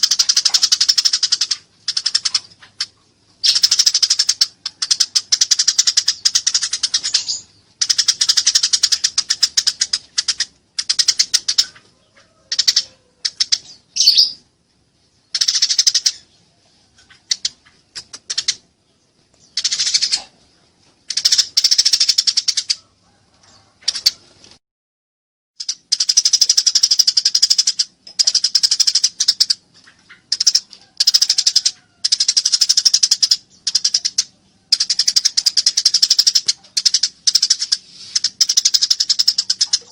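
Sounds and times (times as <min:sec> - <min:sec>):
sparrows harsh chirping: 0:00.0 - 0:22.8, 0:25.6 - 0:39.9.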